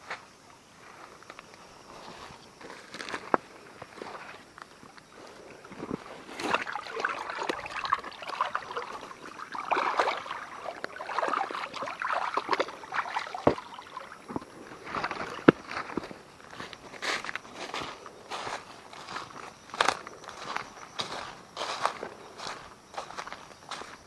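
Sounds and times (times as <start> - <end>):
water sloshing and splashing: 4.0 - 23.9.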